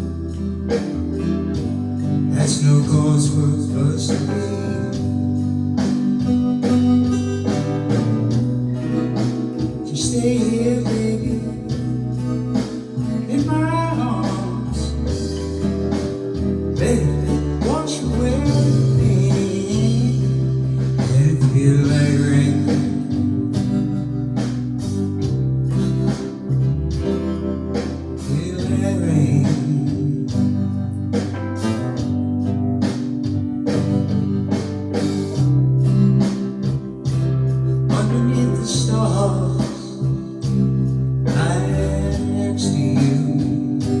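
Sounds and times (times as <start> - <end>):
slow blues band instrumental: 0.0 - 44.0.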